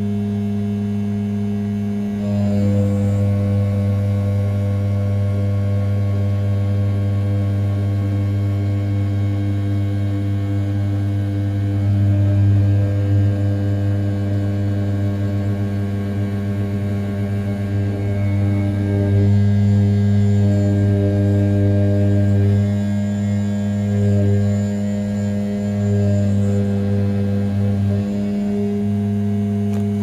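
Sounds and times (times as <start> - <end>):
milling machine spindle hum: 0.0 - 30.0.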